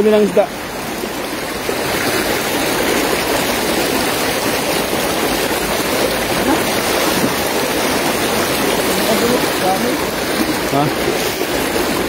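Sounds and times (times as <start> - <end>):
fast-flowing river water: 0.0 - 12.0
person wading through water: 0.7 - 12.0.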